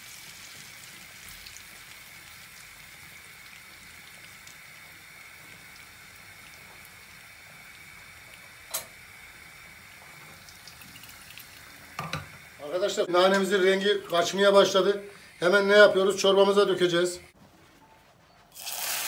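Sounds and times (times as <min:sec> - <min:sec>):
mint sizzling in butter: 0:00.0 - 0:17.2, 0:18.6 - 0:19.0.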